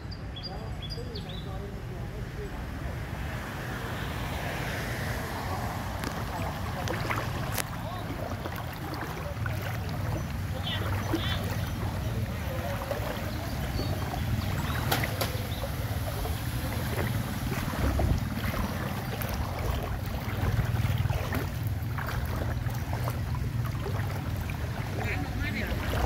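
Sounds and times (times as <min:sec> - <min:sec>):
wind rumbling on microphone: 0:01.6 - 0:26.0
water lapping and sloshing: 0:02.6 - 0:26.0.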